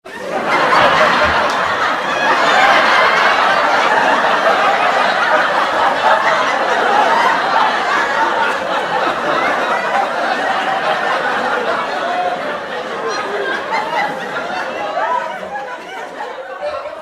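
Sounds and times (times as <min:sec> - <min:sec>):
studio audience laughter: 0:00.1 - 0:17.0.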